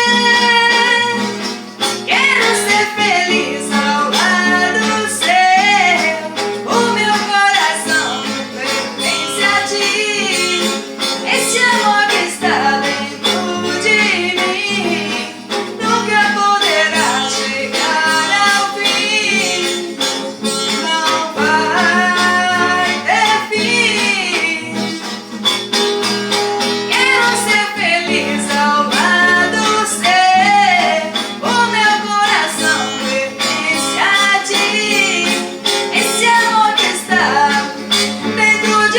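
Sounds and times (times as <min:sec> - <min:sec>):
woman singing: 0:00.0 - 0:25.3, 0:26.9 - 0:38.9
guitar: 0:00.0 - 0:38.9.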